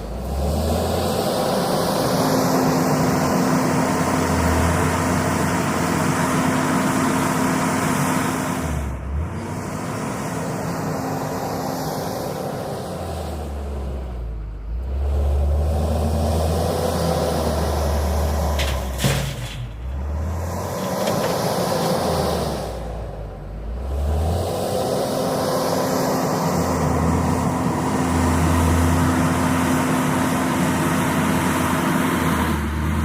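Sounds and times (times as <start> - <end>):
diesel engine running under load: 0.0 - 33.0.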